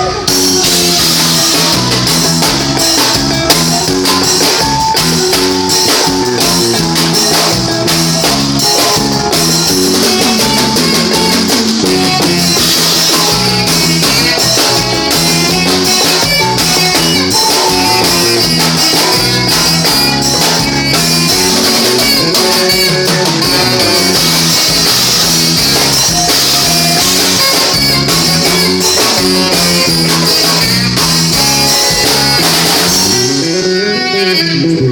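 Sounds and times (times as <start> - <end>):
band playing: 0.0 - 34.9
drum kit: 0.0 - 34.9
guitar: 0.0 - 34.9.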